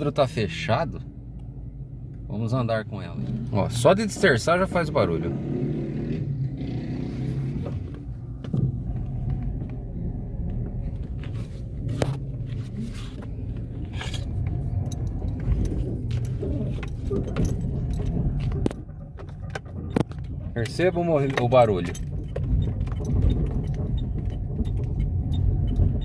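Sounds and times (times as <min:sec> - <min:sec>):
car road rumble: 0:00.0 - 0:26.0
suspension clicking and creaking: 0:00.0 - 0:26.0.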